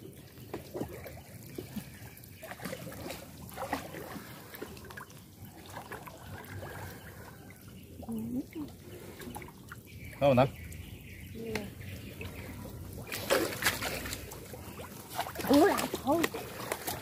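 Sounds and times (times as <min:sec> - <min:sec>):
shallow water trickling and sloshing: 0:00.0 - 0:17.0
small water splashes: 0:00.0 - 0:17.0.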